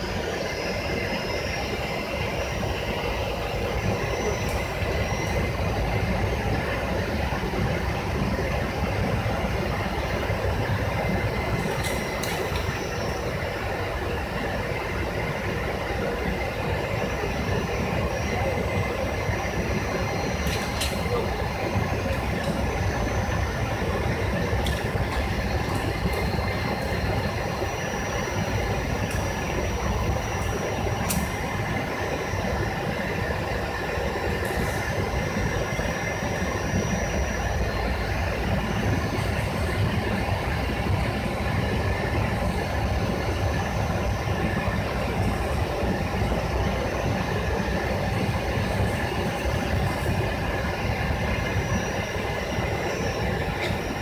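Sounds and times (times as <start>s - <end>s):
airliner cabin roar: 0.0s - 54.0s.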